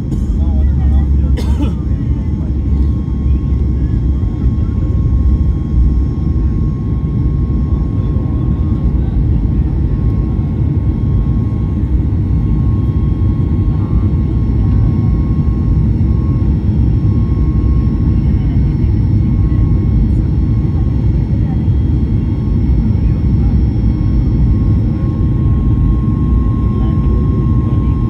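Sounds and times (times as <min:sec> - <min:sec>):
jet engines low rumble: 0:00.0 - 0:28.0
thin steady whine: 0:00.0 - 0:28.0.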